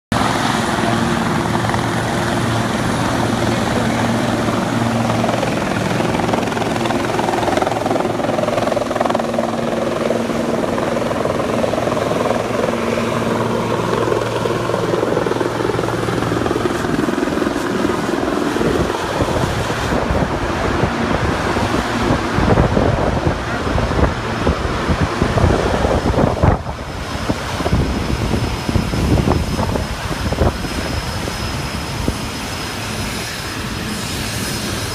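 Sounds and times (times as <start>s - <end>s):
helicopter flying: 0.1s - 34.9s.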